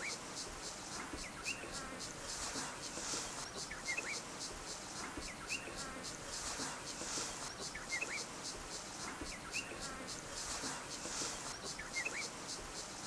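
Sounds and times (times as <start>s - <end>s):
pulsing insect chorus: 0.0s - 13.0s.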